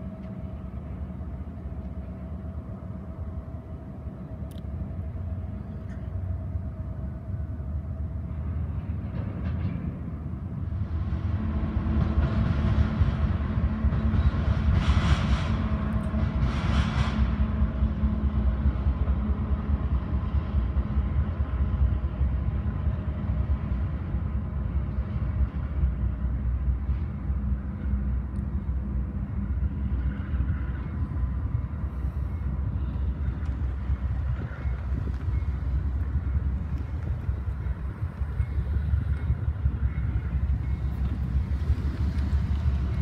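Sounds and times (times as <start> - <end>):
distant diesel locomotive rumble: 0.0 - 43.0.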